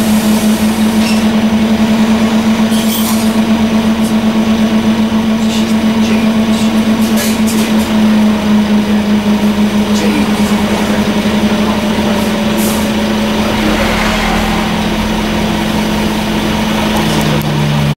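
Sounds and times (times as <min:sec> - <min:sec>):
diesel bus engine idling: 0:00.0 - 0:17.9.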